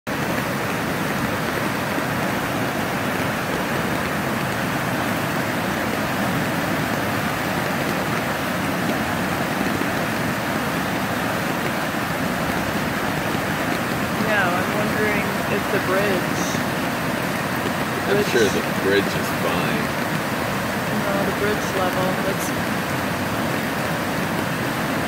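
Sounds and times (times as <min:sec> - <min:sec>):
fast-moving water rushing: 0:00.1 - 0:25.0.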